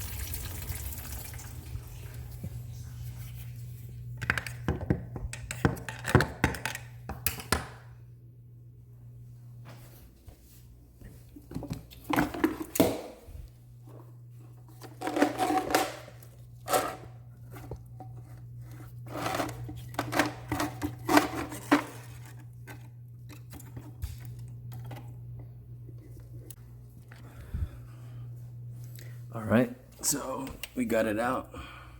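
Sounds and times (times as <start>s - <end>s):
steady low hum: 1.6s - 31.9s.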